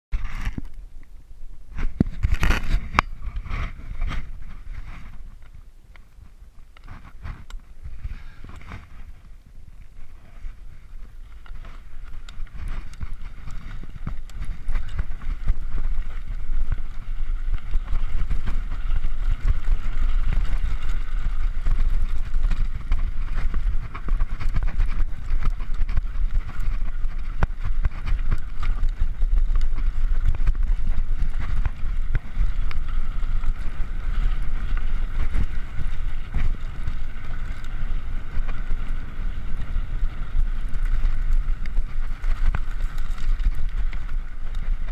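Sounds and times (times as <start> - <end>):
wind buffeting microphone: 0.1 - 44.9
bike clicks and rattles: 0.2 - 1.1, 1.7 - 44.9.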